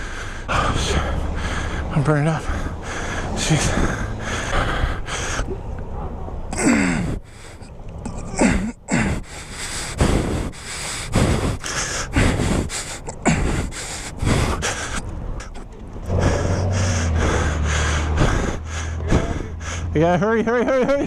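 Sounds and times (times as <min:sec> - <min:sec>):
man breathing hard: 0:00.0 - 0:05.6, 0:06.6 - 0:07.7, 0:08.4 - 0:20.0.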